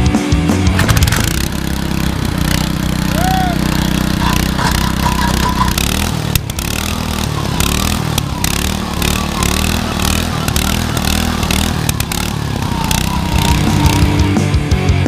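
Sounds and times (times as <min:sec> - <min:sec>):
auger engine running under load: 0:00.0 - 0:15.0
scattered clicks: 0:00.8 - 0:02.8, 0:03.8 - 0:14.1.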